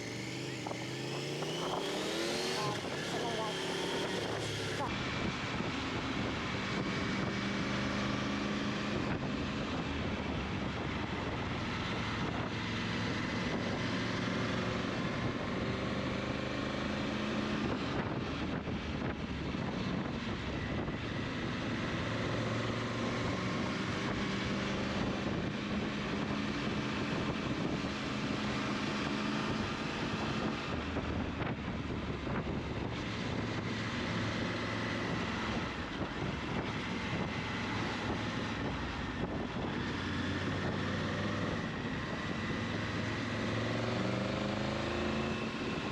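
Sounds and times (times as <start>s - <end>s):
wind noise on microphone: 0.0s - 16.2s, 17.4s - 45.9s
engine drone: 0.0s - 45.9s.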